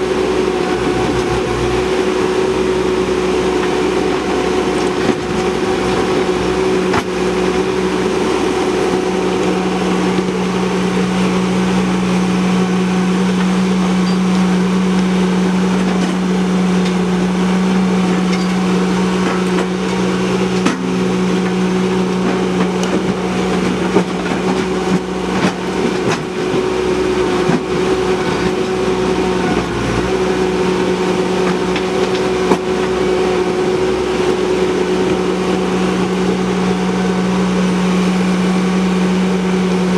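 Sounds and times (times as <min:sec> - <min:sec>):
skid steer engine under load: 0:00.0 - 0:39.9.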